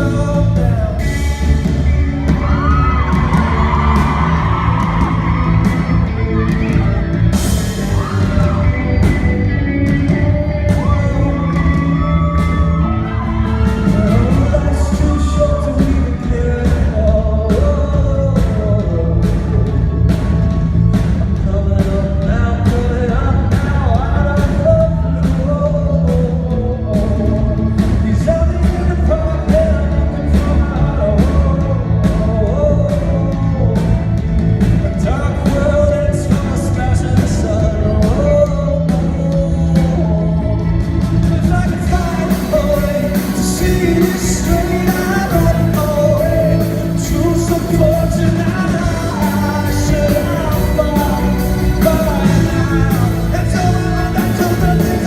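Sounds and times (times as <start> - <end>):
bass guitar: 0.0 - 55.0
man singing: 0.0 - 55.0
steady drumbeat: 0.0 - 55.0.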